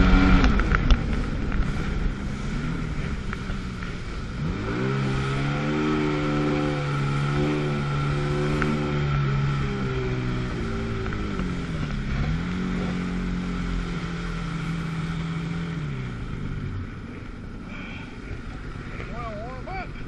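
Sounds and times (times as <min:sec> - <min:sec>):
jet ski engine throttling: 0:00.0 - 0:20.0
rush of wind and water: 0:00.0 - 0:20.0.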